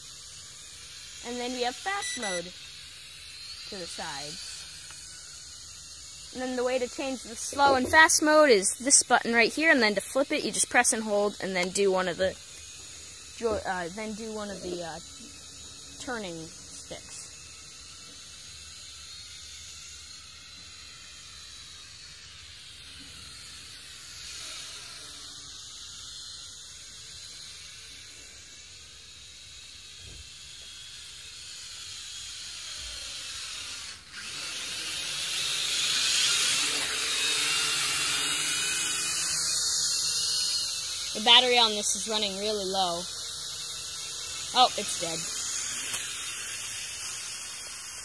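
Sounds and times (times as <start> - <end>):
toy drone propellers whining: 0.0 - 48.0.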